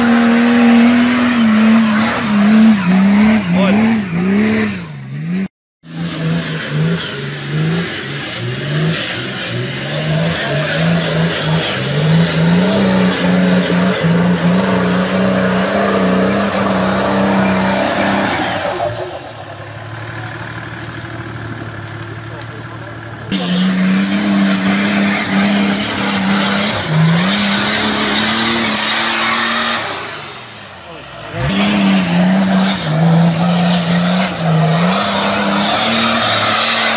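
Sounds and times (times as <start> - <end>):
engine revving under load: 0.0 - 20.7, 22.2 - 36.9.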